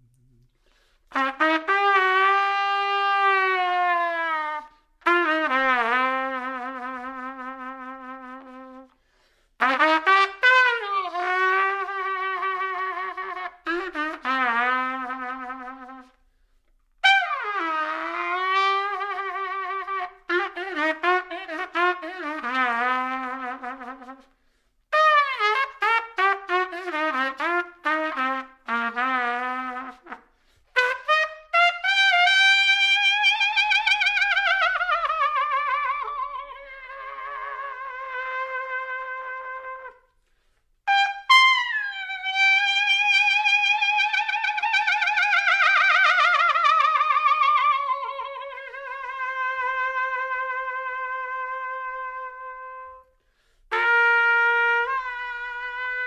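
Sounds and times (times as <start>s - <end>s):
solo brass melody: 1.1s - 9.0s, 9.6s - 16.2s, 17.0s - 24.3s, 24.9s - 40.2s, 40.8s - 56.0s.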